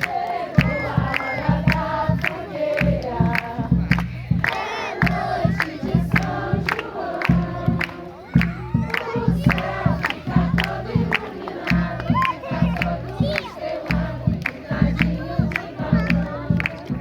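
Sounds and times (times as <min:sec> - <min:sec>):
crowd singing: 0:00.0 - 0:17.0
percussive beat: 0:00.0 - 0:17.0.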